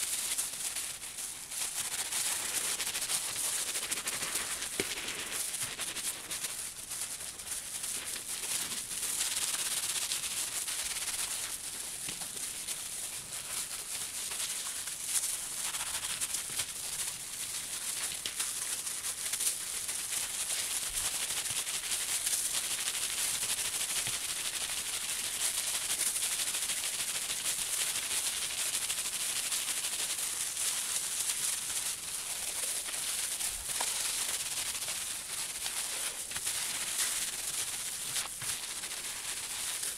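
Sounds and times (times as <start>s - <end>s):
plastic rustling with tiny crackles: 0.0s - 39.9s.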